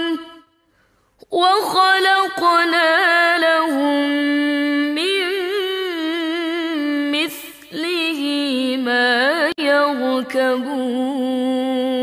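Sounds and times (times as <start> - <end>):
woman reciting melodically: 0.0 - 0.4, 1.2 - 12.0.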